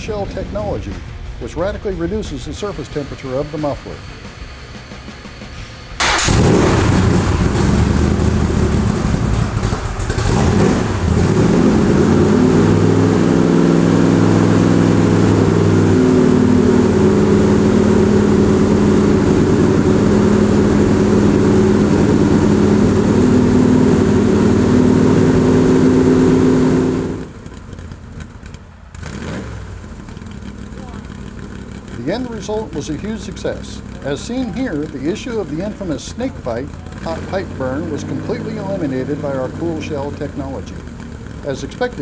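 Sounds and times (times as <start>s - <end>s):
loud car engine under throttle: 6.0s - 42.0s.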